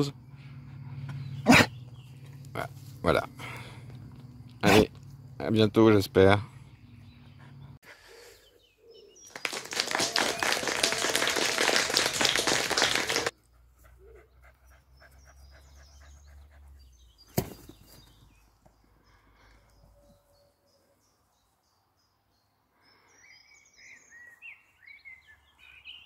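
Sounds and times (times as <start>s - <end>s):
faint outdoor ambience: 0.0s - 26.0s.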